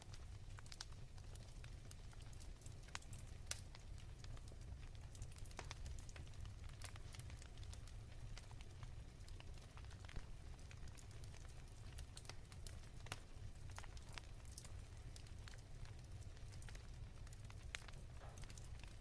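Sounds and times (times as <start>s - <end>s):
wood fire crackling: 0.0s - 19.0s
fire pops and snaps: 0.1s - 19.0s.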